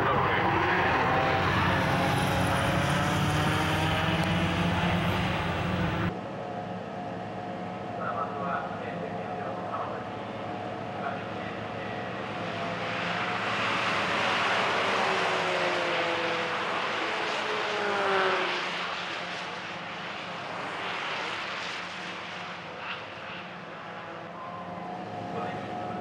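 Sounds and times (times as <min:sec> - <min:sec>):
race cars driving past: 0:00.0 - 0:26.0.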